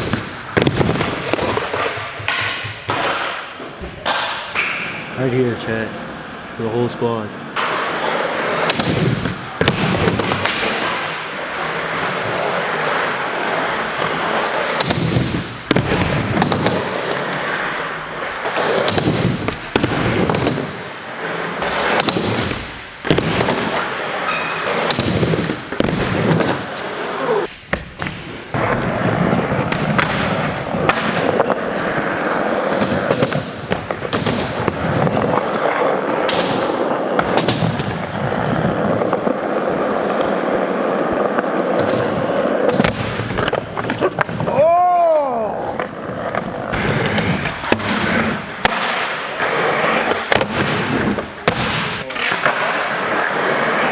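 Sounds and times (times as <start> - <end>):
skateboards slapping and clacking: 0.0 - 5.4, 7.4 - 53.9
skateboards rolling: 0.0 - 53.9.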